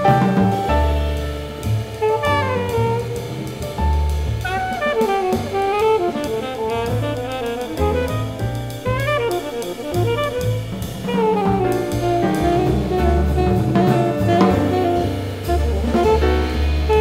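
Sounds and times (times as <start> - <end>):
double bass: 0.0 - 17.0
drum kit with cymbals: 0.0 - 17.0
piano: 0.0 - 17.0
saxophone: 1.9 - 3.7, 4.4 - 17.0.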